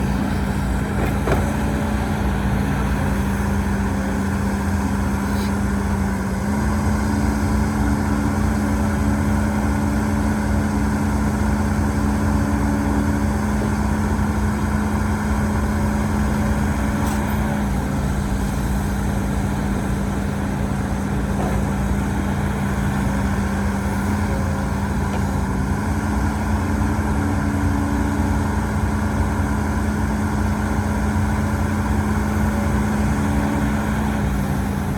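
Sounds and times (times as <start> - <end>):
diesel engine rumbling: 0.0 - 34.9.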